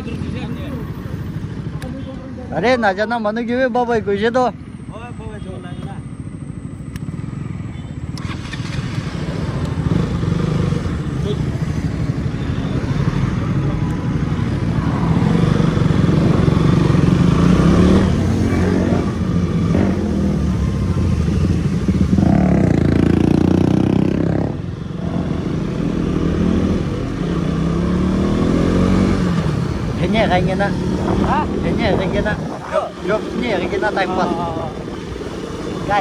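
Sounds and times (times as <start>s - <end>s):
motorcycle engine revving: 4.0s - 36.0s.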